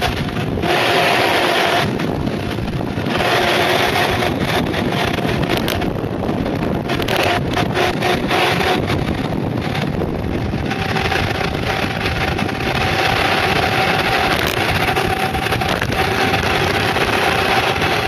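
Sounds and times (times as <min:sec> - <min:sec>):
tyres rushing on asphalt: 0:00.0 - 0:18.0
wind on microphone: 0:00.0 - 0:18.0.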